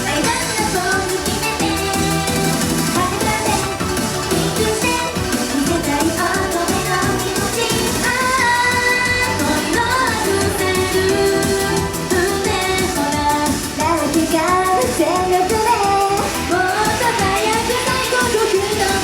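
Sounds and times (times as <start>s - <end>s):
loud backing track: 0.0s - 19.0s
women singing pop song: 0.0s - 19.0s.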